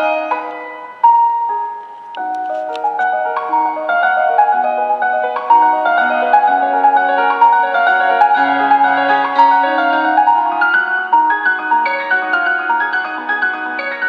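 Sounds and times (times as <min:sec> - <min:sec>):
piano and mallet music on speaker: 0:00.0 - 0:14.0.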